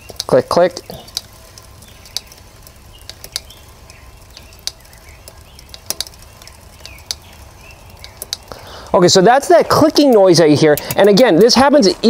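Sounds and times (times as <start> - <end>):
brake rotor clicking: 0.0 - 8.7, 9.3 - 11.7
bike wheel turning: 0.0 - 12.0.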